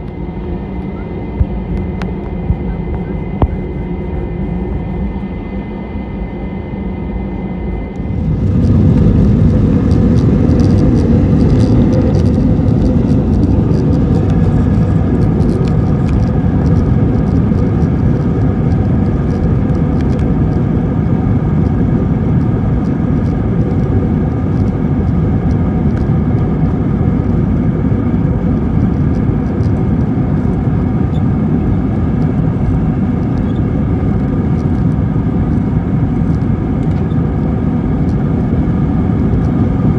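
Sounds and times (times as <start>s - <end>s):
jet engines spooling up: 0.0s - 39.9s.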